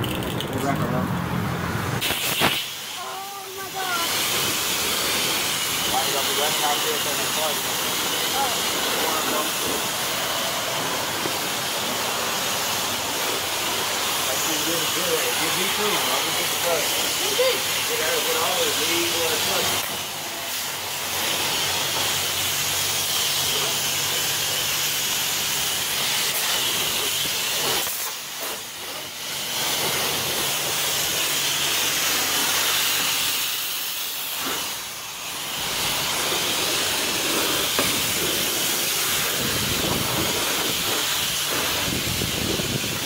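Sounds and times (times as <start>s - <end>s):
high-pressure water jet hissing: 1.8s - 43.0s.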